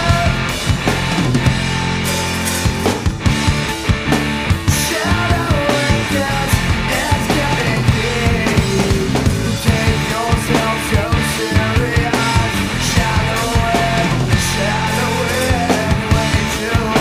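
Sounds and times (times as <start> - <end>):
bass guitar: 0.0 - 17.0
drum kit: 0.0 - 17.0
electric guitar: 0.0 - 17.0
rock band playing: 0.0 - 17.0.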